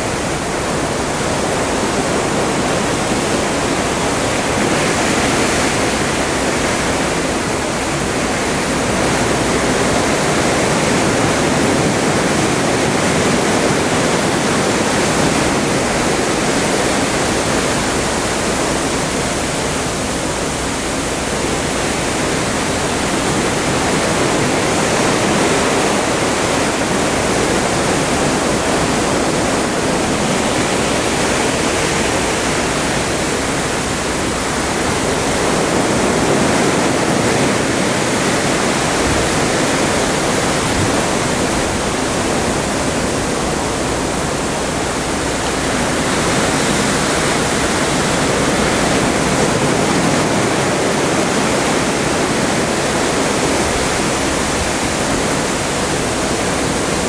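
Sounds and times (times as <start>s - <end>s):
seawater rushing along ship hull: 0.0s - 57.0s.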